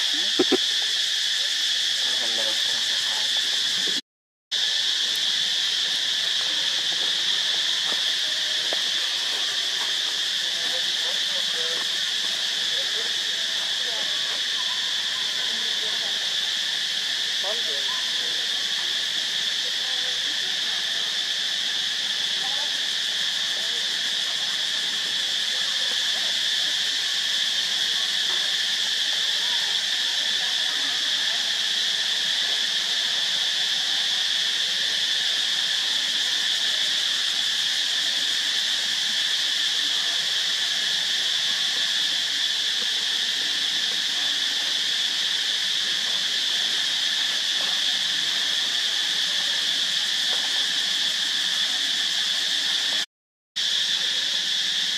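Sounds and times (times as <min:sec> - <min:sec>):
high-pitched insect chorus: 0:00.0 - 0:54.9.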